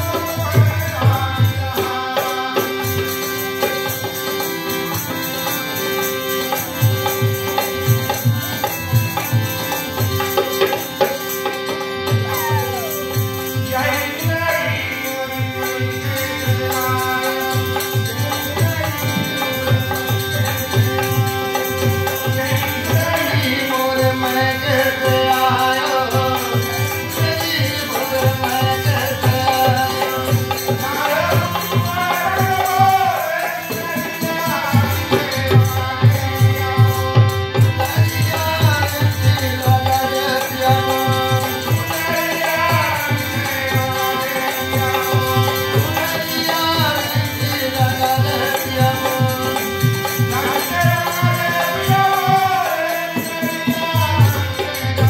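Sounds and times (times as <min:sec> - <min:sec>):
hand drums rhythm: 0:00.0 - 0:55.0
harmonium chords: 0:00.0 - 0:55.0
man singing devotional melody: 0:00.0 - 0:55.0.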